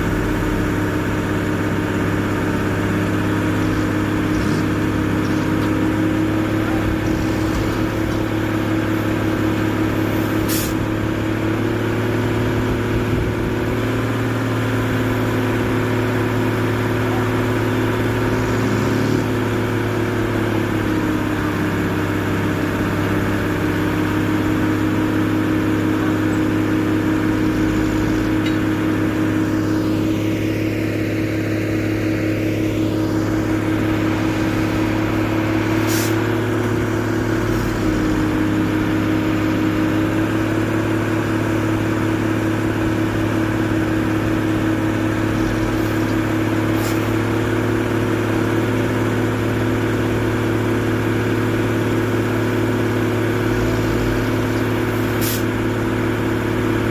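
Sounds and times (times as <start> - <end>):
diesel truck engine running: 0.0 - 56.9.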